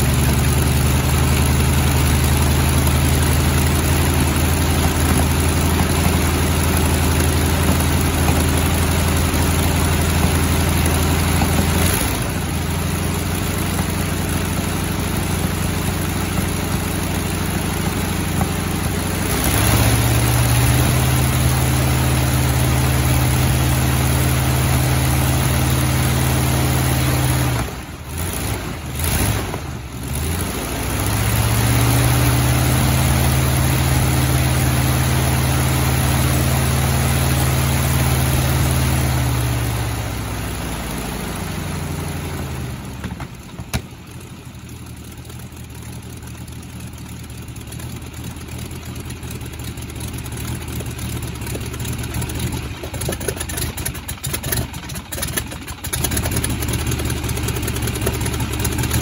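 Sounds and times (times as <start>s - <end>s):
radial aircraft engine running: 0.0s - 59.0s.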